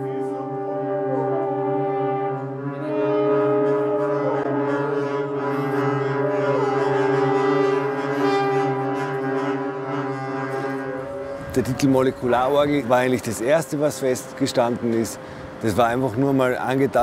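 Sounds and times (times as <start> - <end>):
brass instruments low drone chord: 0.0 - 17.0.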